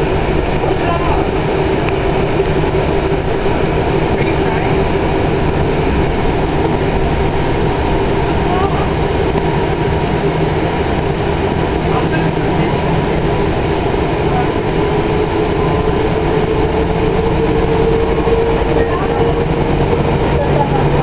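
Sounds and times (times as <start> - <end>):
steady hum: 0.0 - 21.0
train running rumble: 0.0 - 21.0.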